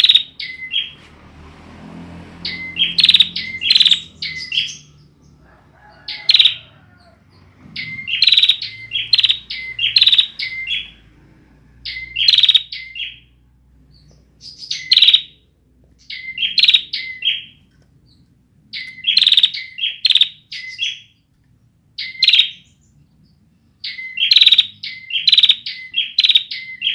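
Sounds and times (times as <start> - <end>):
bird chirping song: 0.0 - 26.9.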